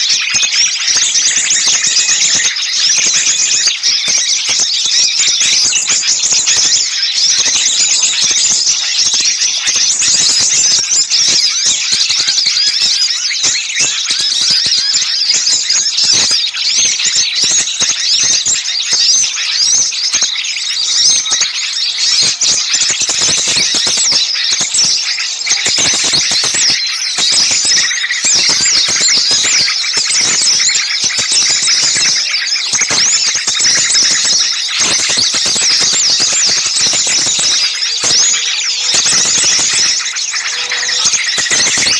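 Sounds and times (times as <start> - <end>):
small birds chirping and trilling: 0.0 - 41.9.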